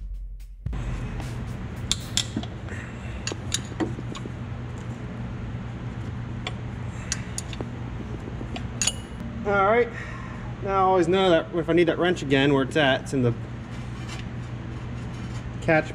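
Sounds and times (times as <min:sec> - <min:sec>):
steady low hum: 0:00.6 - 0:15.9.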